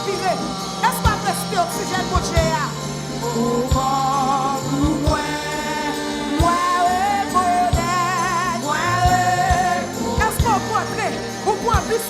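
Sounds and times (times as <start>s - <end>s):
band with bass and drums: 0.0s - 12.0s
person singing wavering melody: 1.2s - 12.0s.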